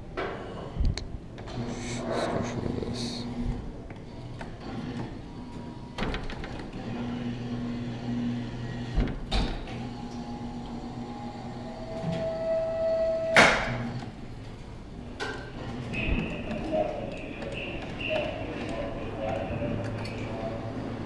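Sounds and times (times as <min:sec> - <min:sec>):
claw machine motor hum: 0:01.4 - 0:21.0.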